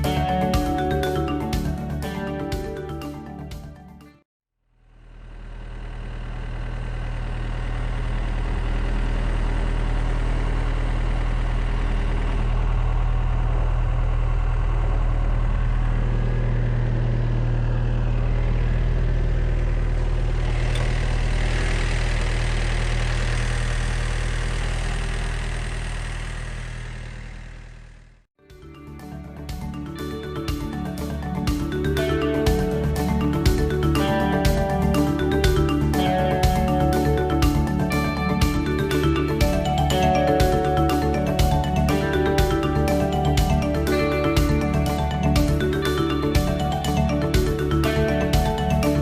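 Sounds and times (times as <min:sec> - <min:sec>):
engine idling: 0:04.7 - 0:49.0.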